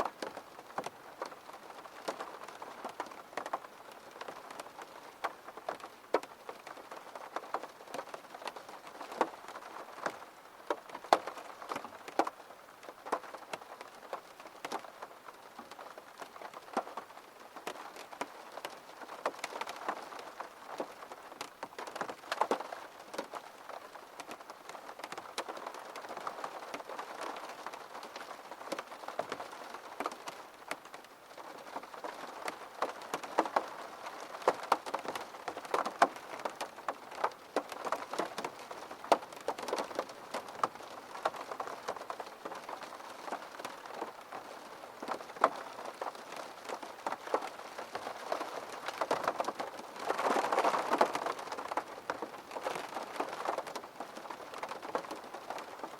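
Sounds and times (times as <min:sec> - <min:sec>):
rain pattering: 0:00.0 - 0:55.9.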